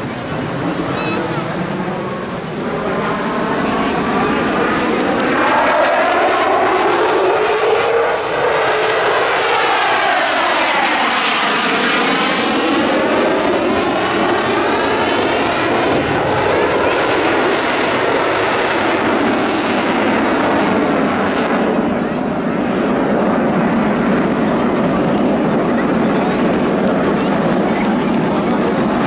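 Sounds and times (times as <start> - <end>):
jet flying past: 0.0 - 29.0.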